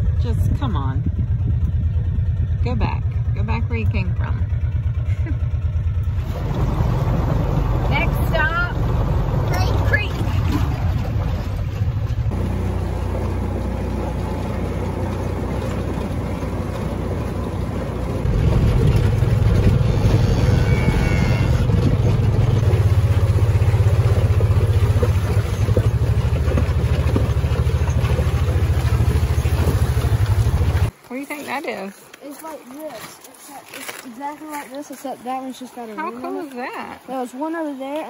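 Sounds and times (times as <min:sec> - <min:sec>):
utility vehicle engine droning: 0:00.0 - 0:31.0.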